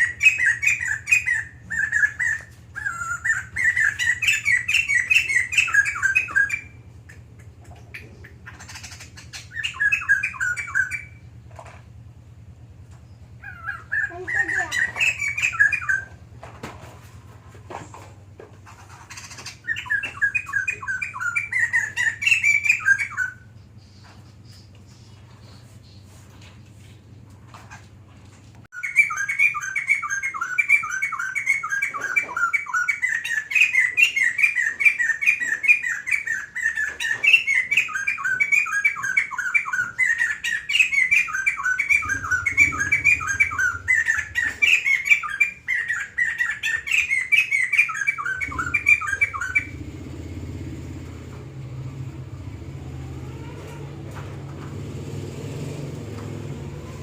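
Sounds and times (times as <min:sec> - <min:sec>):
bird singing rapid repeated notes: 0:00.0 - 0:16.5, 0:18.6 - 0:27.9, 0:28.7 - 0:57.0.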